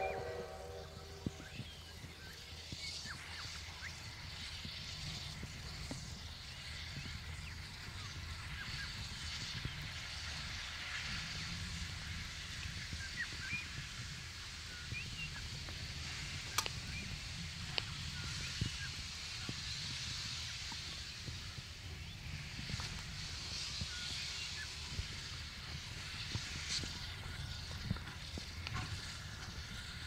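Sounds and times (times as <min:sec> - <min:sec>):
distant steam locomotive rumble: 0:00.0 - 0:30.0.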